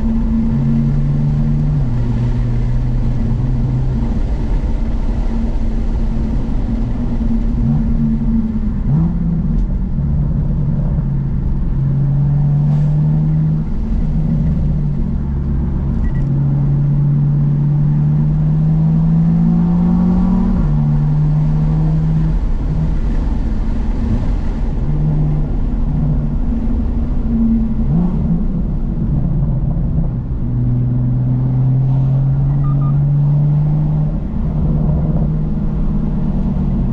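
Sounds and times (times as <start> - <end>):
car engine drone through exhaust: 0.0 - 36.9.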